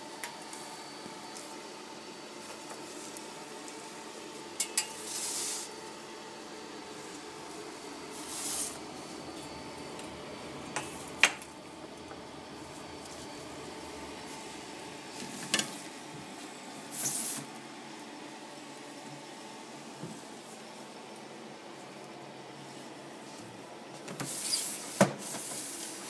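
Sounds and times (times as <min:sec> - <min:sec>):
conveyor toaster humming: 0:00.0 - 0:26.0.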